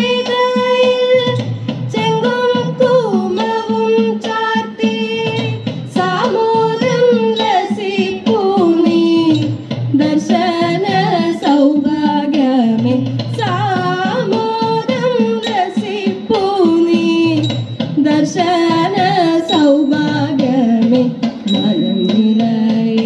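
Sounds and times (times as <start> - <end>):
woman singing: 0.0 - 23.0.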